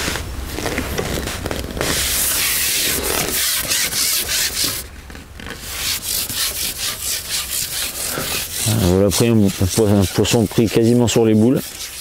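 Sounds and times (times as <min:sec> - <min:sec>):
fishing pole rubbing scrape: 0:00.6 - 0:04.8, 0:05.4 - 0:12.0.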